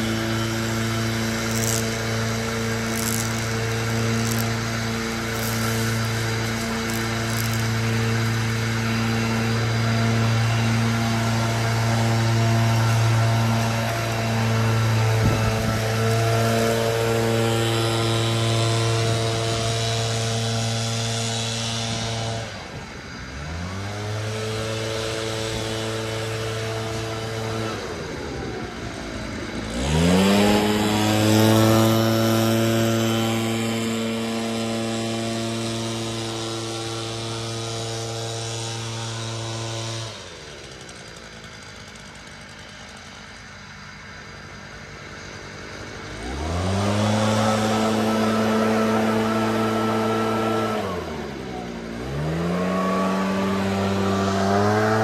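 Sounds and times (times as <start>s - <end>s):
leaf blower engines revving: 0.0s - 55.0s.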